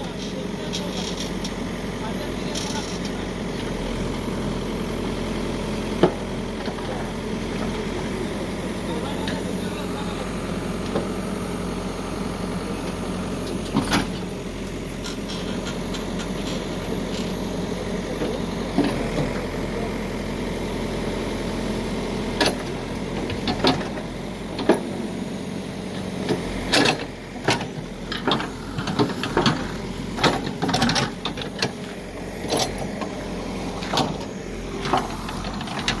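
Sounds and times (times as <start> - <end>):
diesel machinery running: 0.0 - 36.0.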